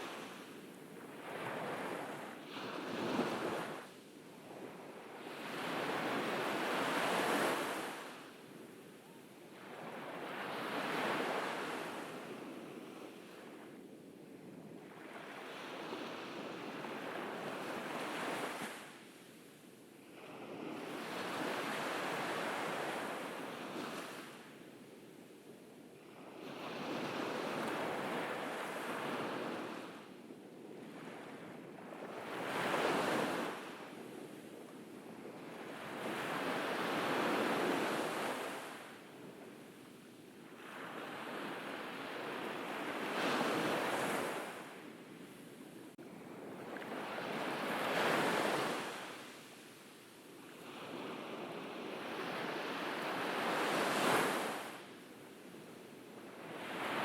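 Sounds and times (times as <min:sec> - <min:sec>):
waves breaking on a beach: 0:00.0 - 0:57.0.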